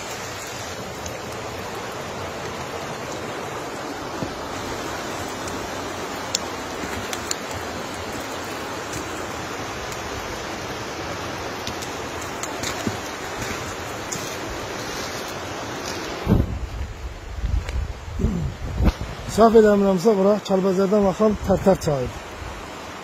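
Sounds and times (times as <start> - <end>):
fast river rushing: 0.0 - 23.0.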